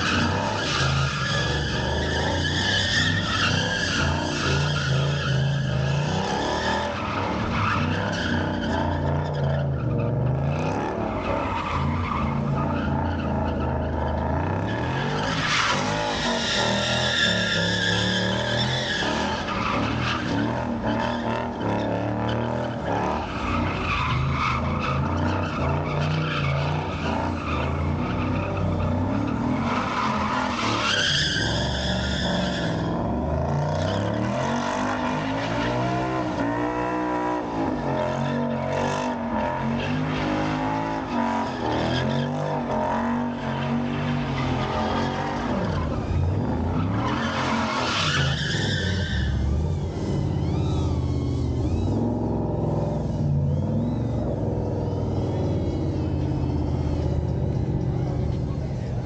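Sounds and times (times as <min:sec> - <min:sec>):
tyres squealing on pavement: 0:00.0 - 0:36.8, 0:37.4 - 0:59.0
car engine revving: 0:00.0 - 0:59.0.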